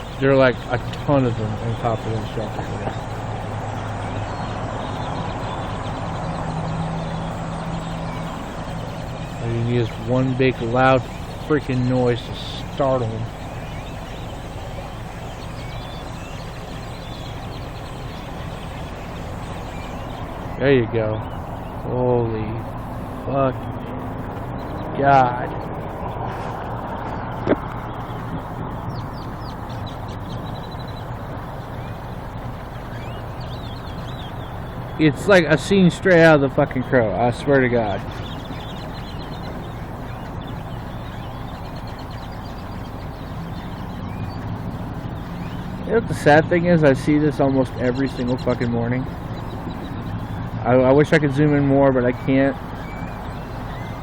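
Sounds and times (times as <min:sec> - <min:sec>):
flock of birds chirping: 0:00.0 - 0:54.0
low engine hum: 0:00.0 - 0:54.0.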